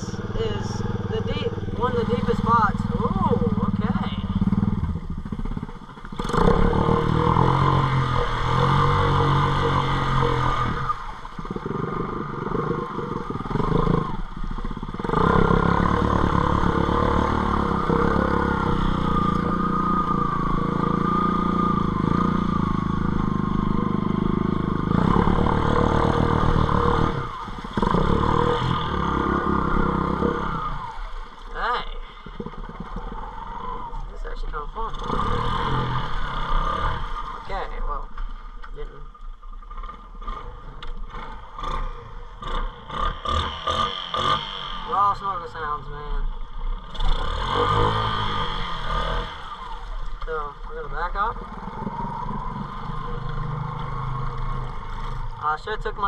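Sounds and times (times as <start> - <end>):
off-road bike engine revving: 0.0 - 56.0.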